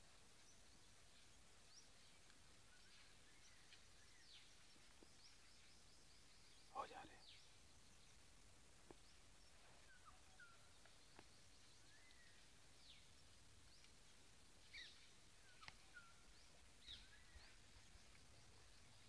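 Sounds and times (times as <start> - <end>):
quiet background hiss: 0.0 - 19.0.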